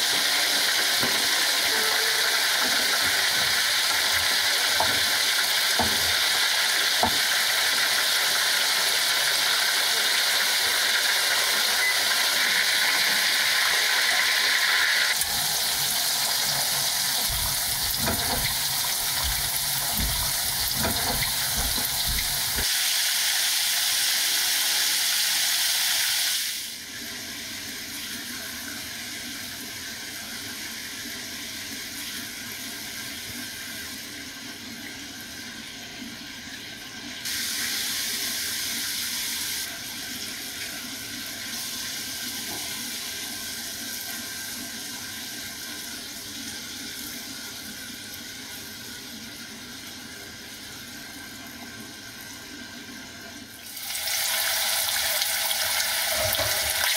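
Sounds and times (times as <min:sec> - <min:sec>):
chicken sizzling in hot oil: 0:00.0 - 0:35.8, 0:36.6 - 0:51.4, 0:53.6 - 0:56.9.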